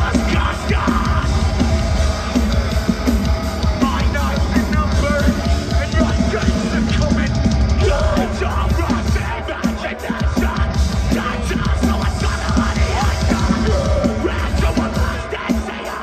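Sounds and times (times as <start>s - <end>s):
bass: 0.0s - 16.0s
distorted guitars: 0.0s - 16.0s
pounding drums: 0.0s - 16.0s.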